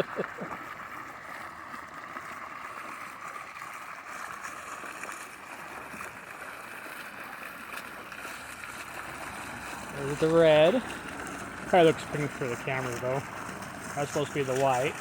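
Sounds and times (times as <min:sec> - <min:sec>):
water fountain splashing: 0:00.0 - 0:15.0.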